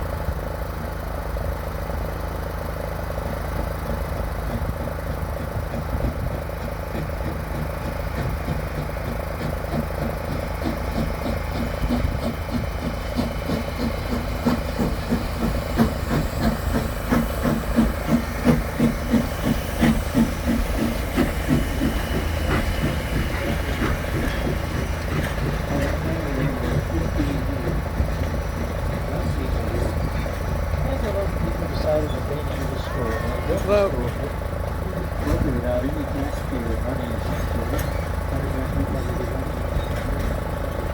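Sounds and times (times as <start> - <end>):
constant low rumble: 0.0 - 40.9
steam locomotive exhaust chuffing: 0.0 - 40.9.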